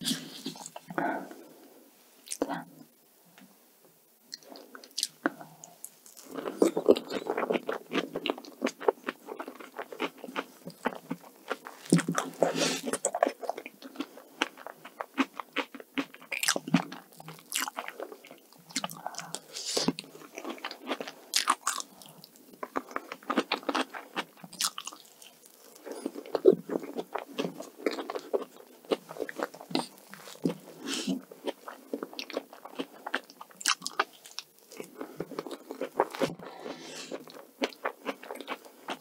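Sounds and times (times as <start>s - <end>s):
close chewing mouth sounds: 6.1s - 39.0s.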